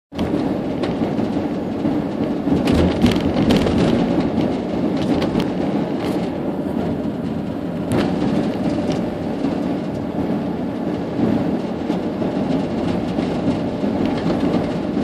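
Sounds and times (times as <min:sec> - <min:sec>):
vehicle engine and road noise: 0:00.1 - 0:15.0
rattles and knocks: 0:00.2 - 0:15.0.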